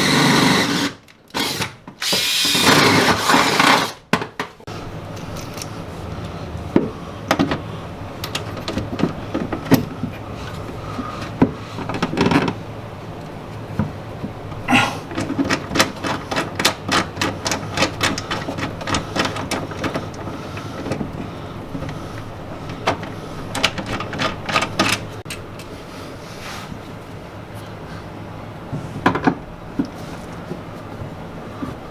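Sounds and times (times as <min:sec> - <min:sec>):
steady low hum: 0:04.7 - 0:31.9.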